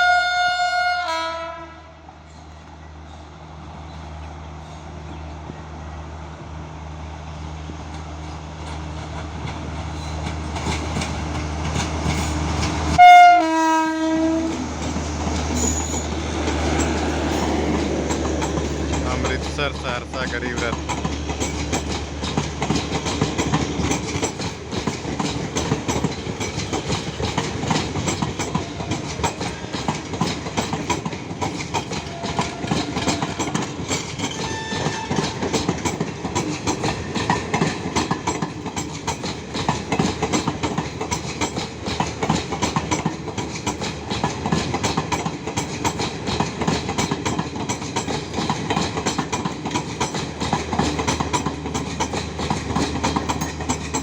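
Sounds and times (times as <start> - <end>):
train rumbling: 0.0 - 54.0
wheels clattering over rail joints: 7.9 - 13.4, 14.0 - 54.0.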